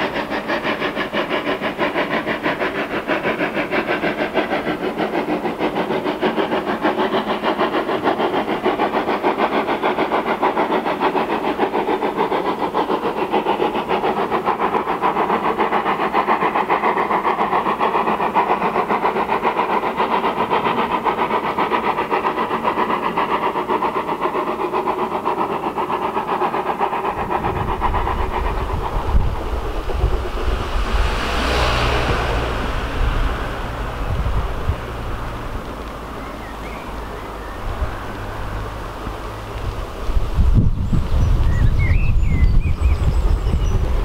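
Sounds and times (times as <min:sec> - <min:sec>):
locomotive running fast pulsing: 0:00.0 - 0:44.0.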